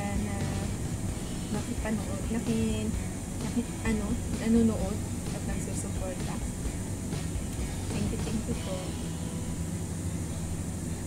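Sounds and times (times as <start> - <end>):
low machine hum with hiss: 0.0 - 11.0.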